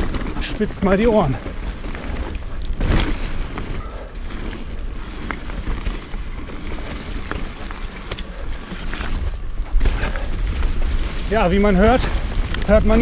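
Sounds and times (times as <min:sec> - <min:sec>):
bike tyre rumble on dirt: 0:00.0 - 0:13.0.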